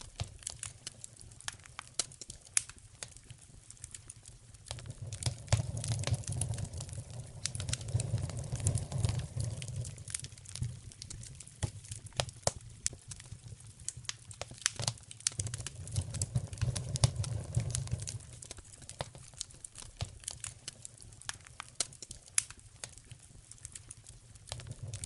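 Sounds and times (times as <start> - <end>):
low rumble of flames: 0.0 - 25.0
wood fire popping and snapping: 0.0 - 25.0.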